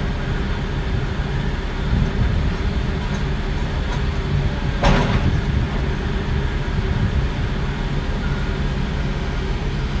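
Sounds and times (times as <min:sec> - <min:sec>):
heavy diesel machinery rumbling: 0:00.0 - 0:10.0.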